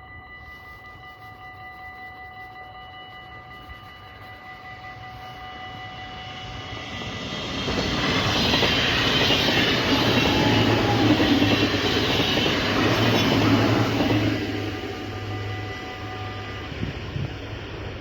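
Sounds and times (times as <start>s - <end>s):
crossing warning bell ringing: 0.0s - 18.0s
electric train passing: 0.0s - 18.0s.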